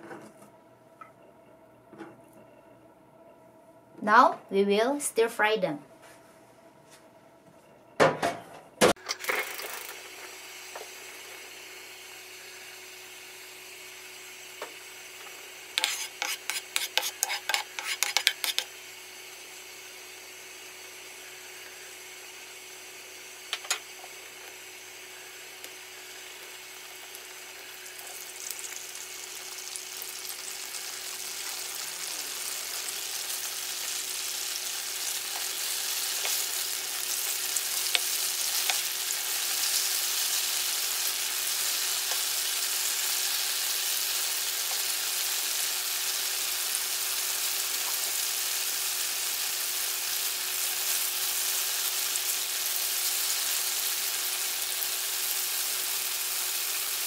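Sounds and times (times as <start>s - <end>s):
tofu sizzling in hot oil: 9.0s - 57.0s.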